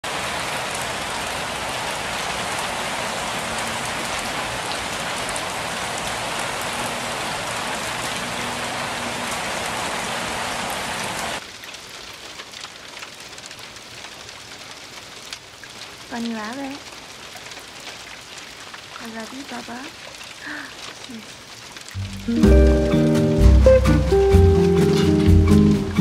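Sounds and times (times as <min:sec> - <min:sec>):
small ticks of raindrops: 0:00.0 - 0:09.8, 0:11.0 - 0:25.6
steady rainfall hiss: 0:00.0 - 0:26.0.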